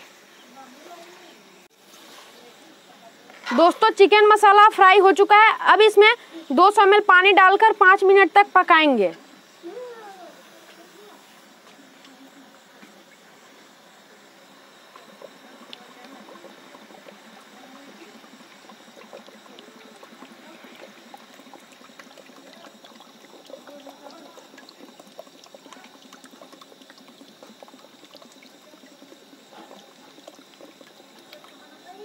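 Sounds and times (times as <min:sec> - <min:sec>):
water pouring and splashing: 0:00.0 - 0:04.8, 0:11.0 - 0:32.0.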